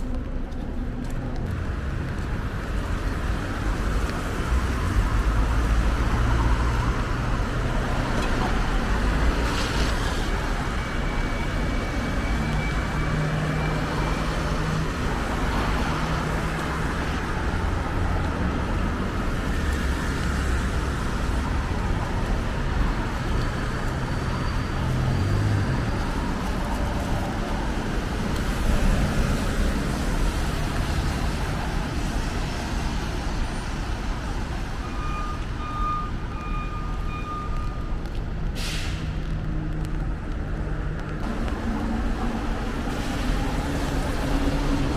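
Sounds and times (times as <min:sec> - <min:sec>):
road traffic on wet streets: 0:00.0 - 0:44.9.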